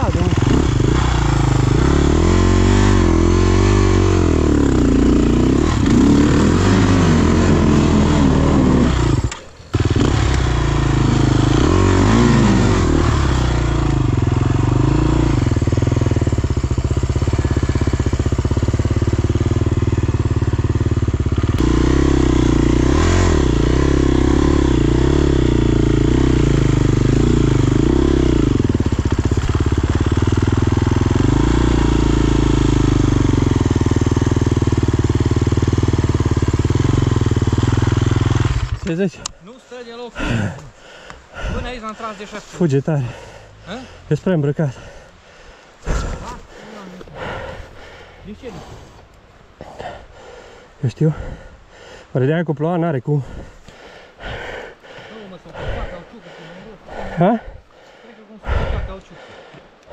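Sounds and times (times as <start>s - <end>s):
dirt bike engine revving: 0.0s - 52.1s, 53.0s - 59.9s.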